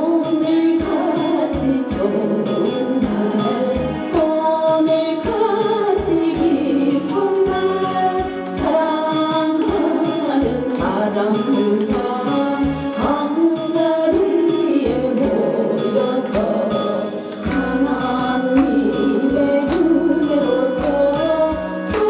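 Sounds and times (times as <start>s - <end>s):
instrumental accompaniment with beat: 0.0s - 22.0s
voices singing a gospel song: 0.0s - 22.0s.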